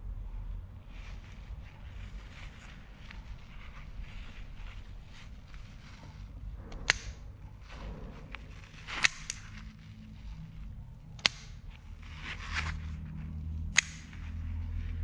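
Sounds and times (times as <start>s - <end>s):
soft handling rustle: 0.5s - 15.0s.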